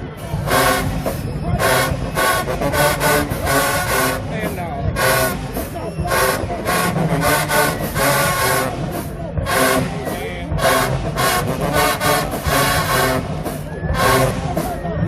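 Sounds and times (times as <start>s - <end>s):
brass chords: 0.0s - 14.8s
drum hits: 0.0s - 15.0s.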